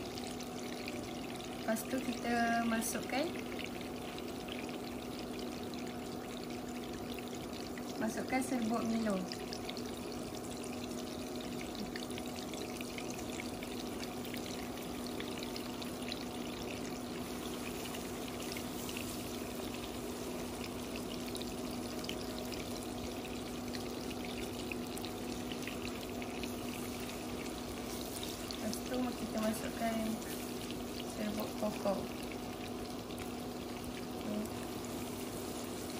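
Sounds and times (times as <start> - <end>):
butter sizzling in a pan: 0.0 - 35.9.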